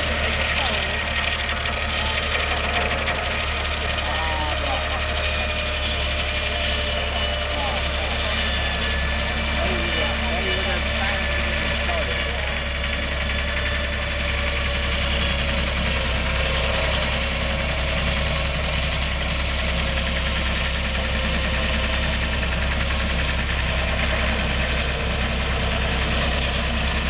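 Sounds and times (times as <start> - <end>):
sawmill engine running: 0.0 - 27.0.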